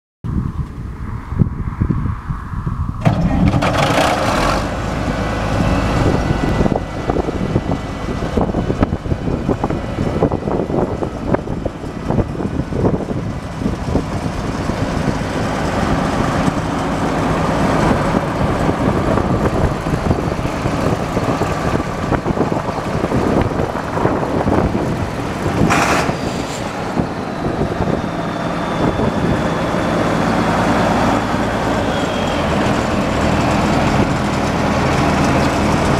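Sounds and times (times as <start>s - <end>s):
tractor diesel engine running: 3.0s - 35.9s.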